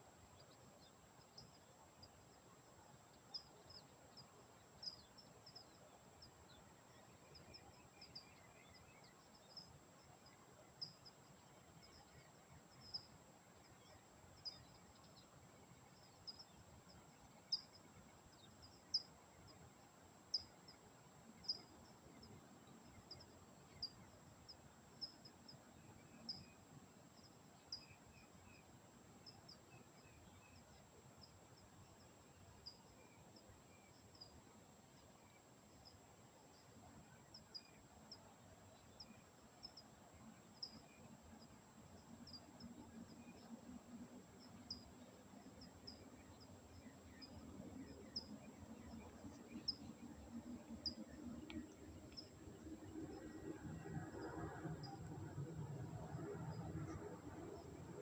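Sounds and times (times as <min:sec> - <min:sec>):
faint background hiss: 0:00.0 - 0:58.0.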